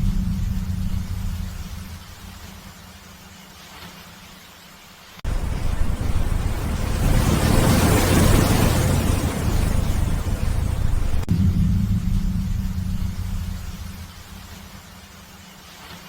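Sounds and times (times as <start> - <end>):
ocean waves washing in: 0.0 - 3.8, 5.2 - 16.0.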